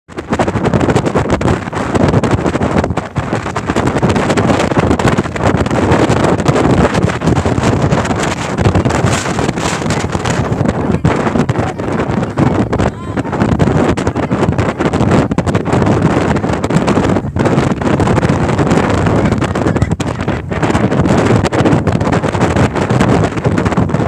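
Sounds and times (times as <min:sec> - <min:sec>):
wind buffeting microphone: 0:00.1 - 0:24.0.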